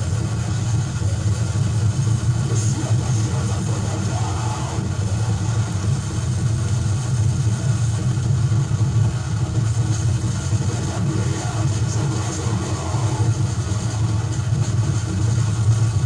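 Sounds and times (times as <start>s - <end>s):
distorted industrial noise drone: 0.0s - 16.0s.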